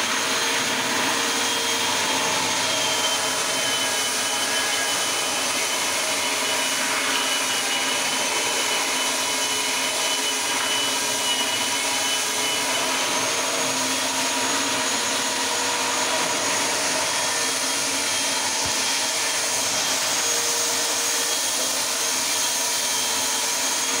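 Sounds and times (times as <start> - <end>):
floor polishing machine motor whirring: 0.0 - 24.0
polishing pad scrubbing floor: 0.0 - 24.0.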